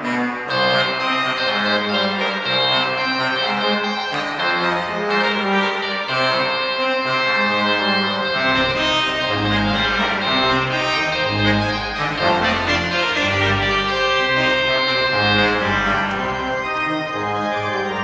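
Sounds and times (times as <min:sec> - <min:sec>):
church organ chords: 0:00.0 - 0:18.0.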